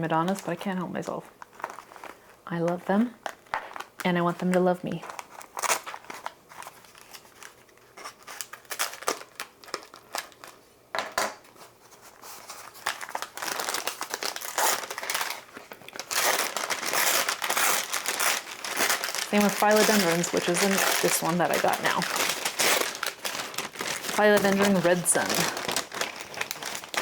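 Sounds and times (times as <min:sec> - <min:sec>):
packaging crinkling and rustling: 0:00.2 - 0:27.0.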